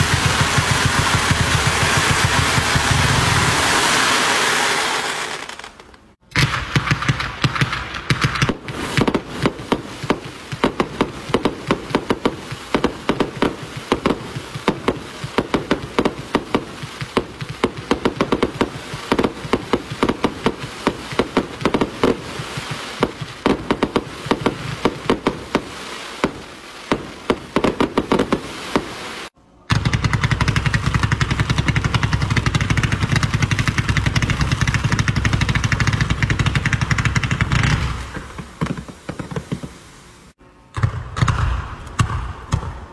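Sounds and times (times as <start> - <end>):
fireworks launch thumps and shots: 0.0 - 42.9
rapid fireworks rattle: 0.0 - 42.9.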